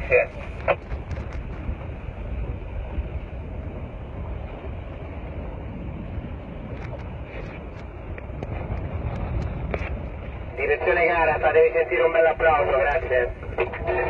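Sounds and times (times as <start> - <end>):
boat engine rumble: 0.0 - 14.0
water noise: 0.0 - 14.0
wind: 0.0 - 14.0.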